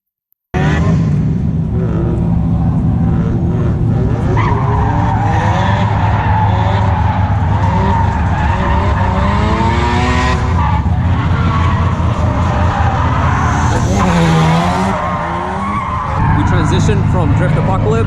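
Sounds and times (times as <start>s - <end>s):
car engine revving: 0.6s - 18.0s
tyres skidding and squealing: 1.8s - 18.0s.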